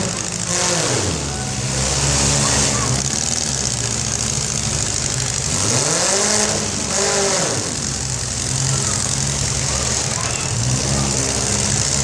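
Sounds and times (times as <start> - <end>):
car engine revving: 0.0 - 12.0
car engines running: 0.0 - 12.0.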